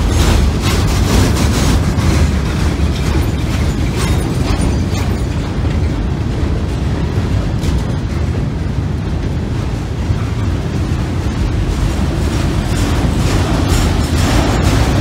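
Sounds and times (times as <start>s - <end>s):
freight train rumbling on trestle: 0.0s - 15.0s
wheels clattering: 0.0s - 15.0s.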